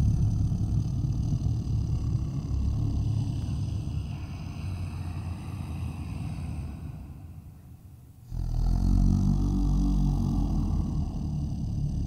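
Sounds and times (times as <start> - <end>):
low rough rumble: 0.0 - 7.5, 8.4 - 12.0.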